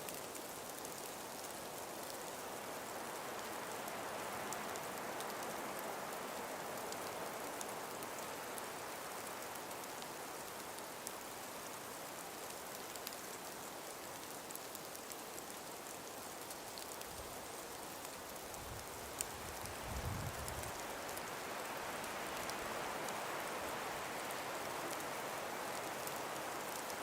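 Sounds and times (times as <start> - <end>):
breeze through icy trees: 0.0 - 27.0
faint ticks: 0.0 - 27.0.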